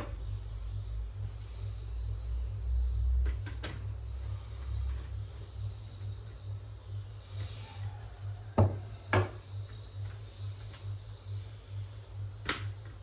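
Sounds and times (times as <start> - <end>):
pulsing low hum: 0.0 - 13.0.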